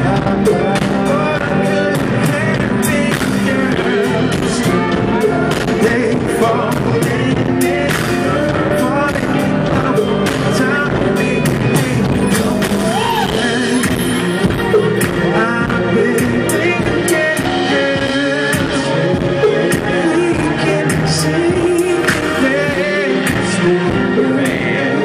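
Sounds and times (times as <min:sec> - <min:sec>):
live band playing: 0:00.0 - 0:25.0
man singing: 0:00.0 - 0:25.0.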